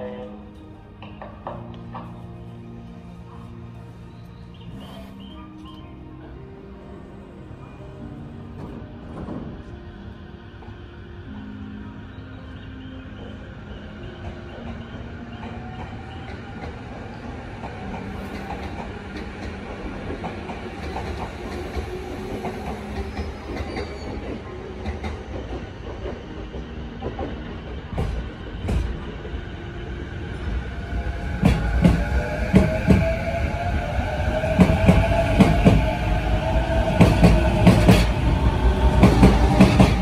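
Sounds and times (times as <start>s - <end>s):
station departure melody: 0.0s - 40.0s
train low rumble: 0.0s - 40.0s.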